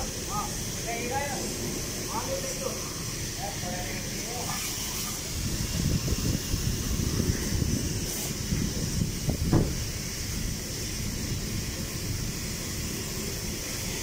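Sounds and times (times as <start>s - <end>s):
pressure washer spraying water: 0.0s - 14.0s.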